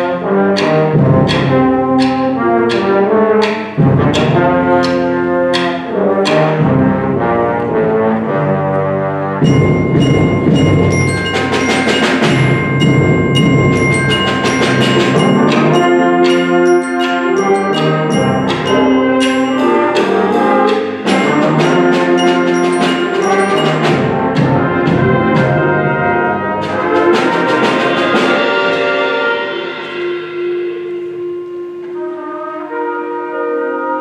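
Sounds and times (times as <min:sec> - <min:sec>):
mallet percussion notes: 0:00.0 - 0:08.5, 0:09.3 - 0:32.9
brass holding chords: 0:00.0 - 0:34.0.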